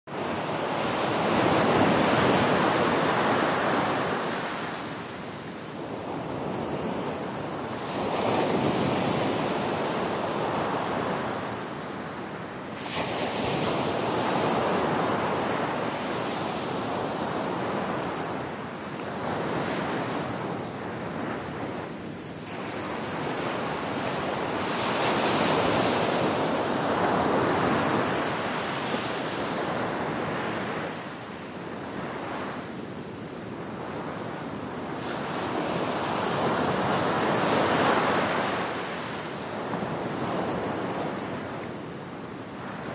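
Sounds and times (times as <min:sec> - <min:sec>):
ocean waves washing onto shore: 0:00.1 - 0:42.9.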